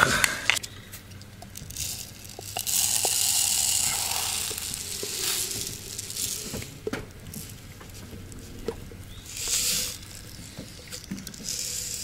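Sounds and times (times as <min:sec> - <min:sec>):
light ticks of plastic jars: 0:00.2 - 0:12.0
powder pouring from plastic jar: 0:01.2 - 0:12.0.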